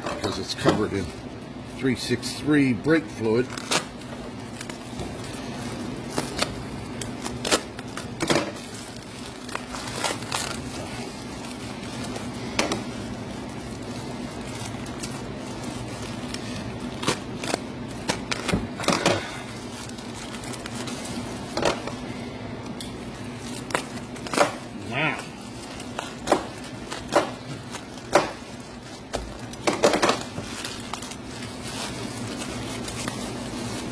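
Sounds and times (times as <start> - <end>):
steady low hum: 0.0 - 33.9
bubble wrap crinkling: 0.4 - 33.9.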